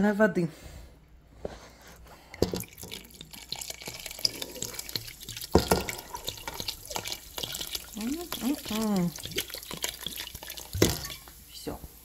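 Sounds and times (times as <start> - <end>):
sparkling water pouring and fizzing: 2.0 - 12.0.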